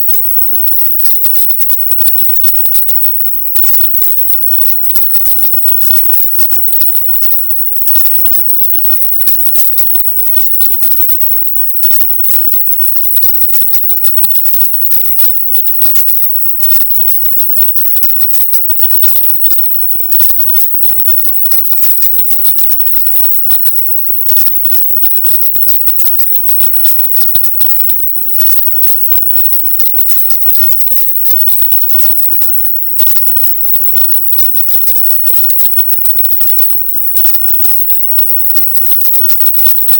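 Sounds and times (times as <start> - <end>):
high-pitched hissing noise: 0.0 - 39.9.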